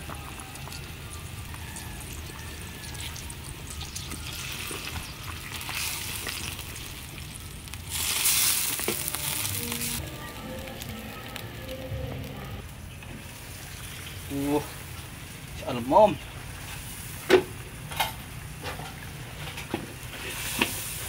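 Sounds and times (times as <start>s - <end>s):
broth simmering and sizzling: 0.0s - 21.0s.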